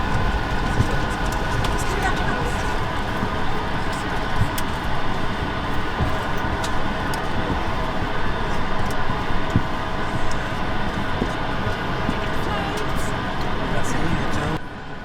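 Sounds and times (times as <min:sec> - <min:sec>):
airliner cabin hiss and hum: 0:00.0 - 0:15.0.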